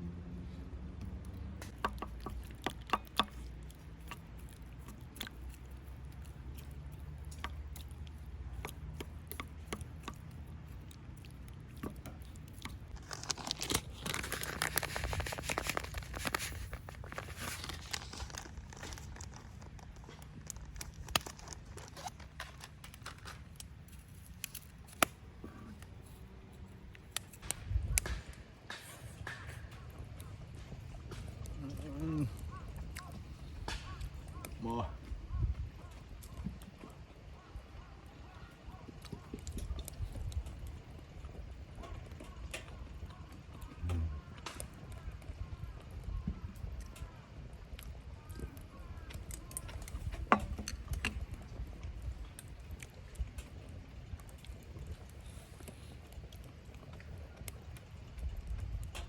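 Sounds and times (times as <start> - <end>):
campfire crackling and popping: 0.9 - 59.0.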